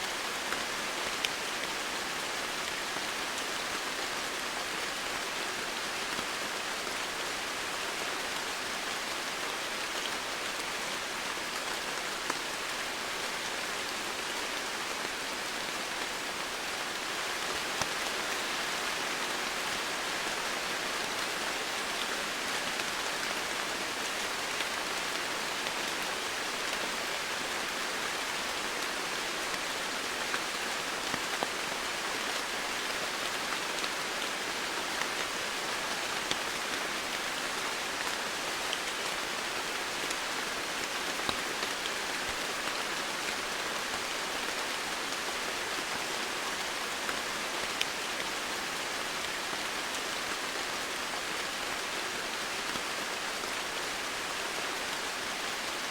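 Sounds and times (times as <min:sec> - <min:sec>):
heavy rain on foliage: 0:00.0 - 0:55.9.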